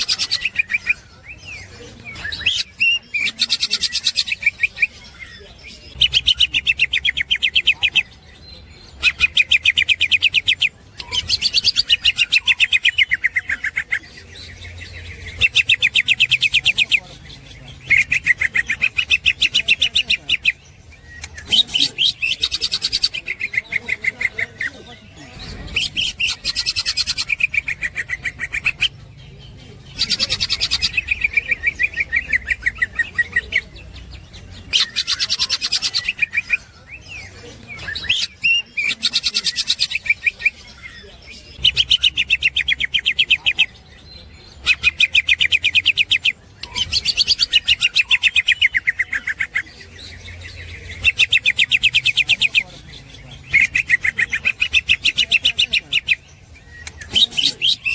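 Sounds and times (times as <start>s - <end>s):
bird singing chattering song: 0.0s - 57.9s.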